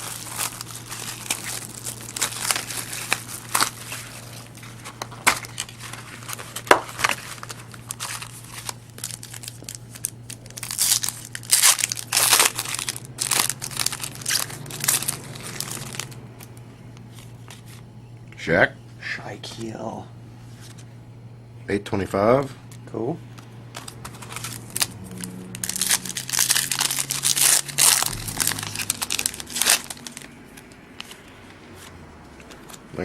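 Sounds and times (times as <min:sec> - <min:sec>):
plastic wrappers crinkling and tearing: 0:00.0 - 0:17.8, 0:23.4 - 0:33.0
cards being handled: 0:00.0 - 0:17.9, 0:22.7 - 0:33.0.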